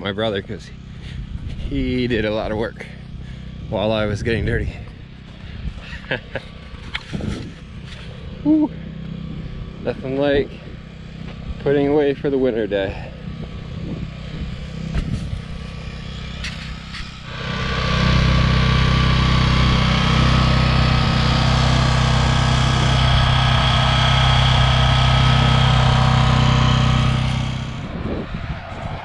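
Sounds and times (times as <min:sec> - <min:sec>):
high engine whine: 0:00.0 - 0:29.0
tractor engine drone: 0:00.0 - 0:29.0.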